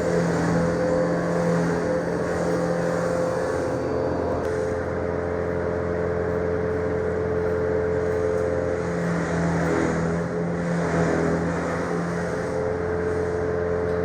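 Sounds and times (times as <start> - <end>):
motor running steadily: 0.0 - 14.0.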